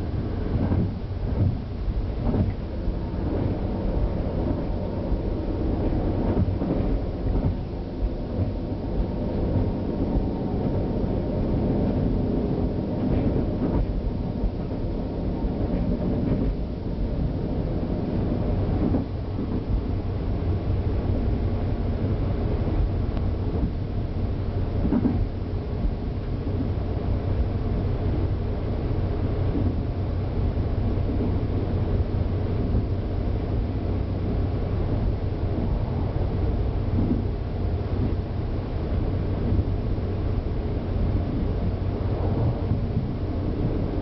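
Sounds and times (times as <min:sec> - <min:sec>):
railcar engine and wheels rumbling: 0:00.0 - 0:44.0.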